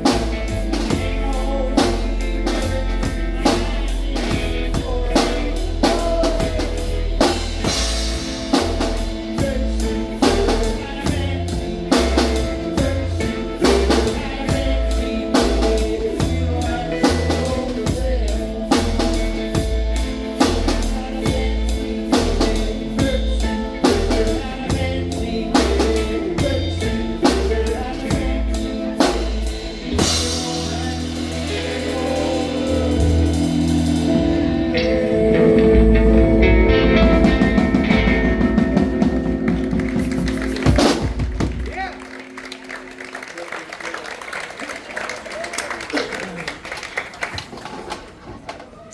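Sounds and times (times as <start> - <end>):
drum kit beat: 0.0 - 43.3
guitar playing: 0.0 - 44.4
live band playing: 0.0 - 47.4.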